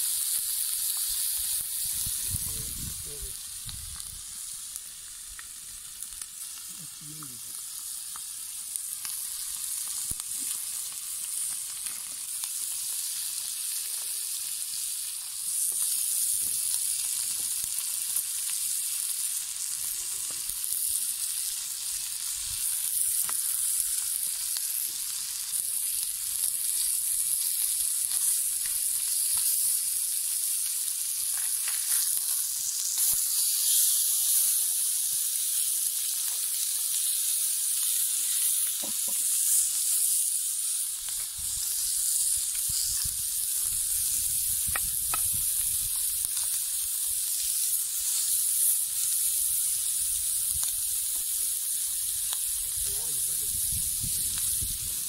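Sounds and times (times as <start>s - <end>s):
meat sizzling on hot stone: 0.0s - 55.0s.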